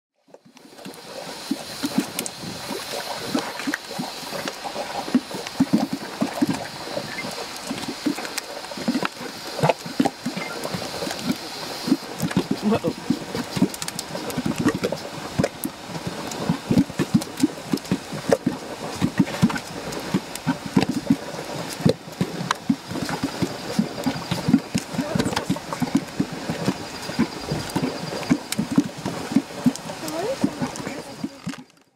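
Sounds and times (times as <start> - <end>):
mud bubbling and plopping: 0.2 - 31.9.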